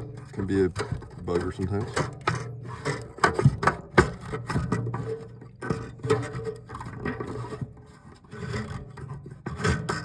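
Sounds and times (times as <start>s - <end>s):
fitting rubbing and scraping: 0.0s - 10.0s.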